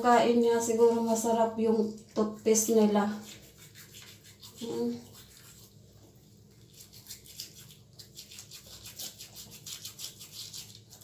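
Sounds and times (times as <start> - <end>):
toothbrush scrubbing teeth: 1.8 - 11.0.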